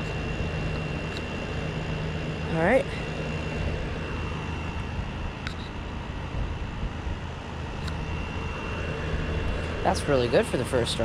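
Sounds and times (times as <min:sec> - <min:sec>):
air conditioner humming: 0:00.0 - 0:11.0
thin high whine: 0:00.0 - 0:11.0.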